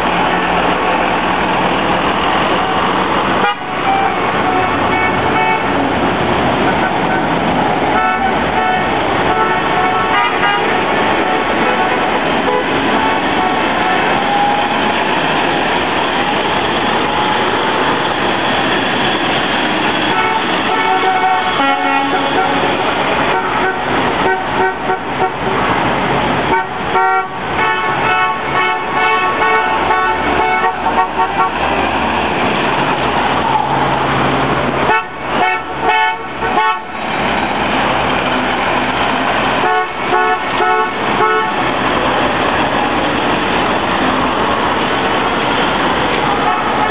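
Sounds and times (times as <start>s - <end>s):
bus horns honking: 0.0s - 32.3s, 33.2s - 46.9s
bus engines passing: 0.0s - 46.9s.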